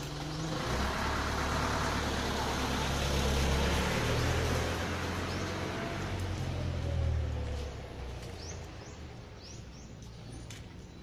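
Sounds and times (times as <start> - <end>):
vehicle engine droning: 0.0 - 10.6.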